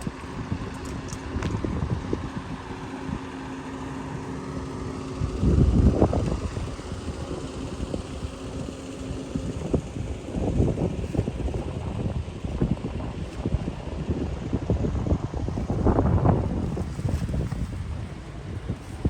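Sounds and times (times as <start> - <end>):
vehicle engine humming: 0.0 - 19.0
wind rumbling on microphone: 0.0 - 19.0.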